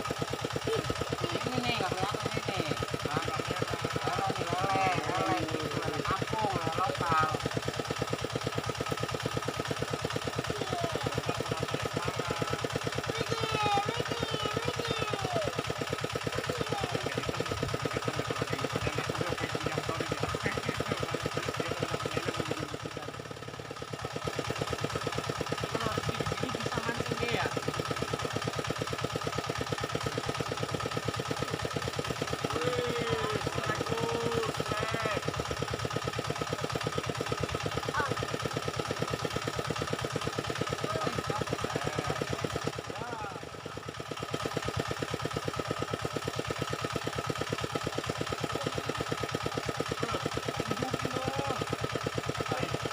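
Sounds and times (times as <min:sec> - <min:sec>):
engine idling with fast chugging: 0:00.0 - 0:52.9.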